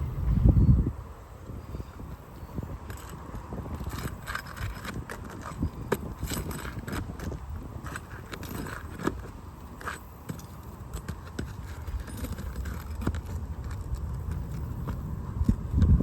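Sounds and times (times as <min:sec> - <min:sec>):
wind rumble on microphone: 0:00.0 - 0:16.0
tool scraping roof shingles: 0:02.8 - 0:16.0.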